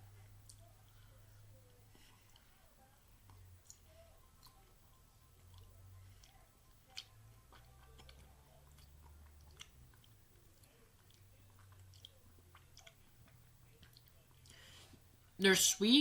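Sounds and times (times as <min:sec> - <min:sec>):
chewing soft candy: 0:00.0 - 0:15.4.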